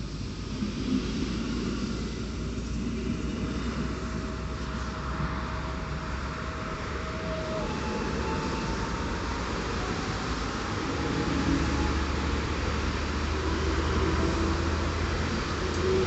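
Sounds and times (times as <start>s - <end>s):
electric train running: 0.0s - 16.0s
faint steady train whine: 0.0s - 16.0s.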